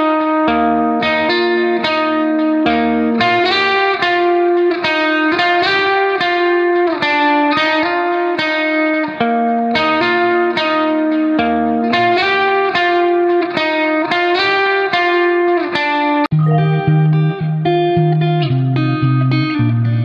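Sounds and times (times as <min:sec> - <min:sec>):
plucked string melody: 0:00.1 - 0:20.0.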